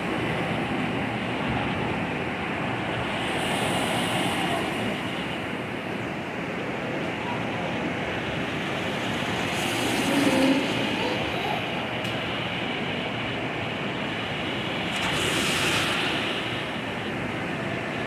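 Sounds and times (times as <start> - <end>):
heavy rain: 0.0 - 18.0
wind: 0.0 - 18.0.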